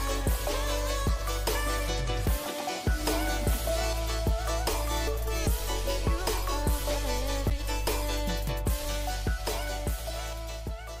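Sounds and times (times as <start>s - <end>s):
background music with kick drum: 0.0s - 11.0s
deep bass: 0.0s - 11.0s.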